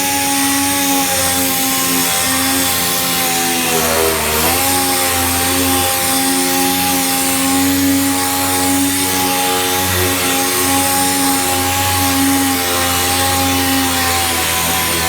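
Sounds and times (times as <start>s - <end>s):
power sander whining: 0.0s - 15.0s.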